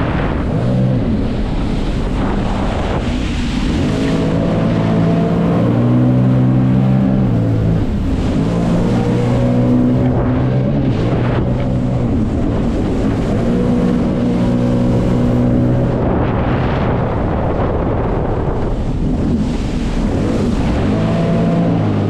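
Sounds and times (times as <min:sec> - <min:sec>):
jet ski engine humming: 0:00.0 - 0:22.0
water rushing: 0:00.0 - 0:22.0
wind buffeting microphone: 0:00.0 - 0:22.0.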